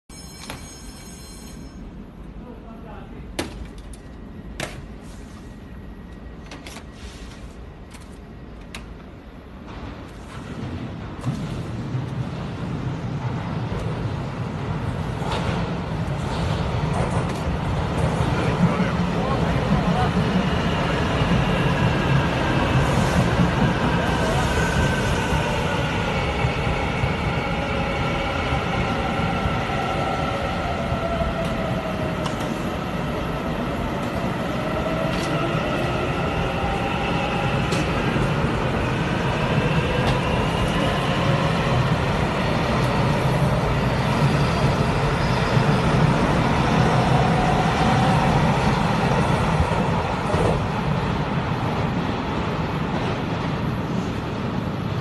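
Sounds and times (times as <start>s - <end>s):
train wheels rumbling on rail: 0.2s - 55.0s.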